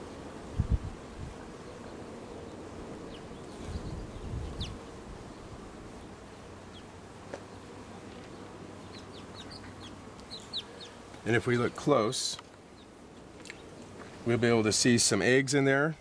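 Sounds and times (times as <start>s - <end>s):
bees humming: 0.0s - 16.0s.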